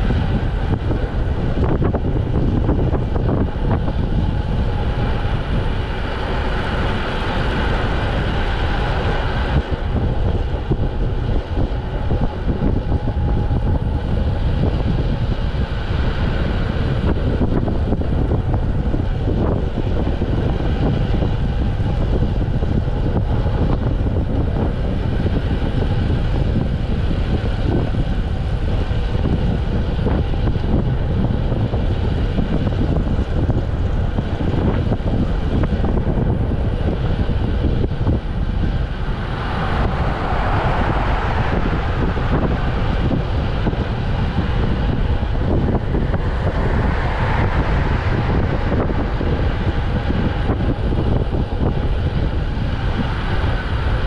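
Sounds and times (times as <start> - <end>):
bike tyre and road noise: 0.0 - 54.0
wind on microphone: 0.0 - 54.0.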